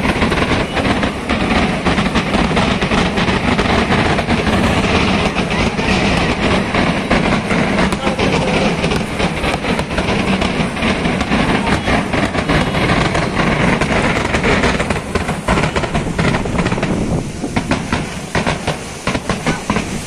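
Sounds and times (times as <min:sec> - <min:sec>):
firecracker bangs crackling: 0:00.0 - 0:20.0.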